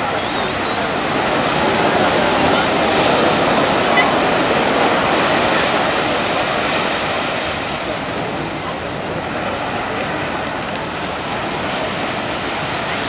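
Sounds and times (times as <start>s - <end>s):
sea water lapping: 0.0s - 13.0s.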